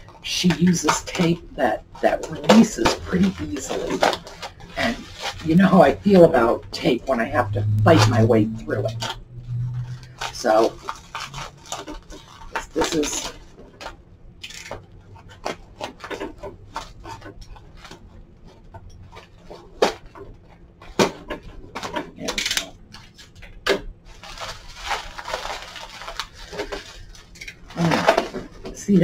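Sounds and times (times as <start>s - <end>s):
paper and tape rustling: 0.0s - 29.0s.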